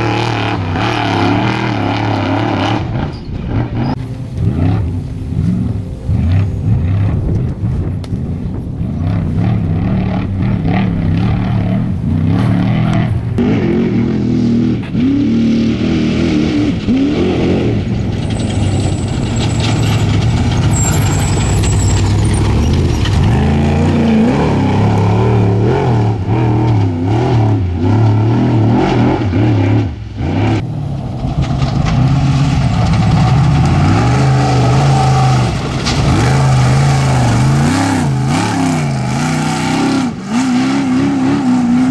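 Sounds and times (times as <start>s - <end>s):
truck engines revving: 0.0s - 41.9s.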